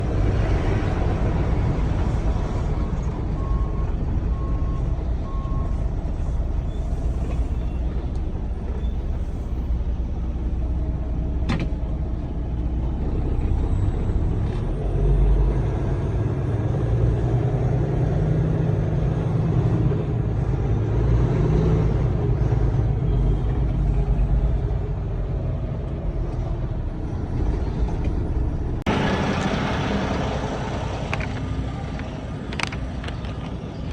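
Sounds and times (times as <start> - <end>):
truck engine and road rumble: 0.0 - 33.9.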